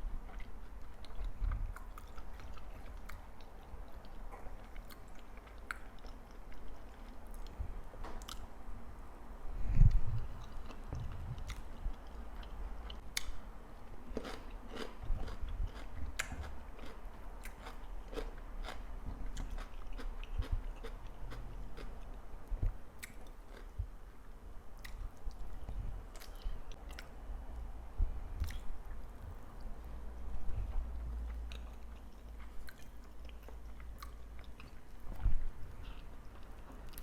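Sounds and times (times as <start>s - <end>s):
person chewing food: 0.1s - 7.6s, 9.8s - 23.9s, 24.7s - 27.1s, 28.4s - 37.0s.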